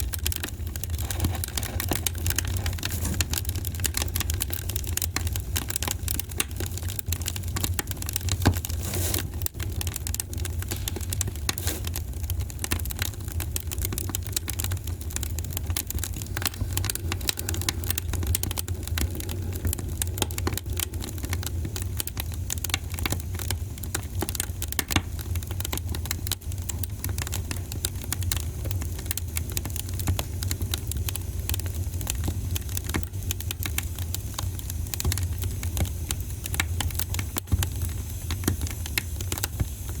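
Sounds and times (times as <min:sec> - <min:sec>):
low rumble of fire: 0:00.0 - 0:40.0
wood fire crackling: 0:00.0 - 0:40.0.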